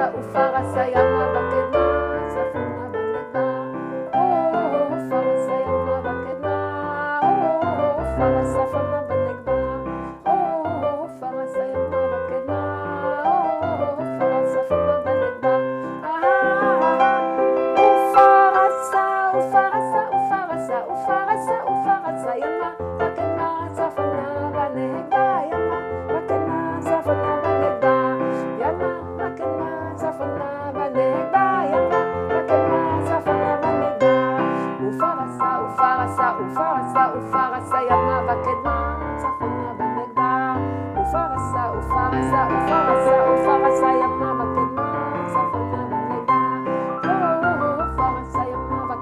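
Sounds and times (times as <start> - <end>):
electric keyboard melody: 0.0 - 49.0.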